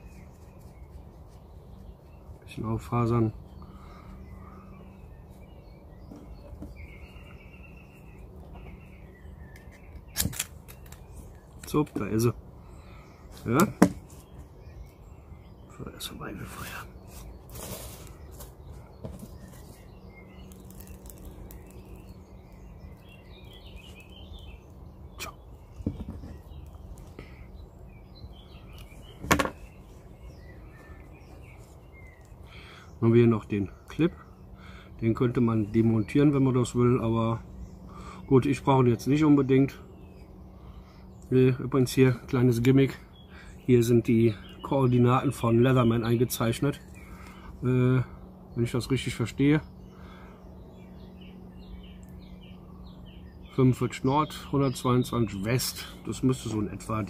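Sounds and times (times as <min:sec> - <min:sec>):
faint bird chirps: 0:00.0 - 0:57.0
steady low hum: 0:00.0 - 0:57.0.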